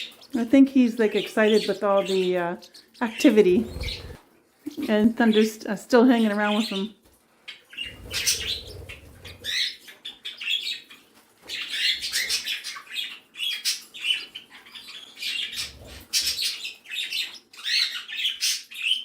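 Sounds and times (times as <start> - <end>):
parrots and finches chirping: 0.0 - 0.4, 1.0 - 5.5, 6.1 - 19.0.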